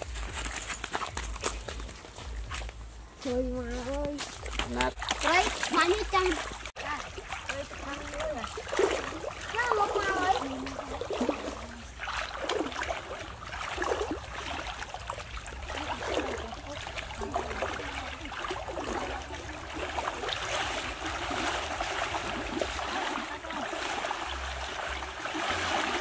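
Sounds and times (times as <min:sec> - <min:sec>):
water splashing around wading legs: 0:00.0 - 0:26.0
stream washing: 0:03.7 - 0:26.0.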